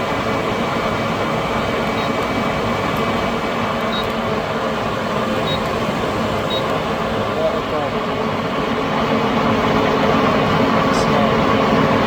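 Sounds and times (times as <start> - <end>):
air conditioner fan whirring: 0.0 - 12.0.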